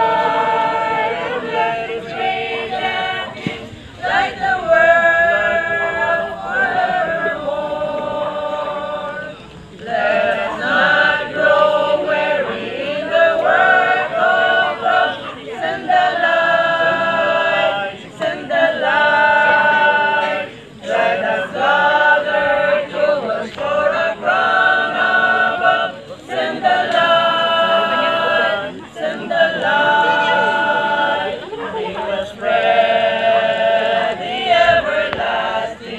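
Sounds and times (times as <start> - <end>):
group singing a cappella: 0.0 - 35.9.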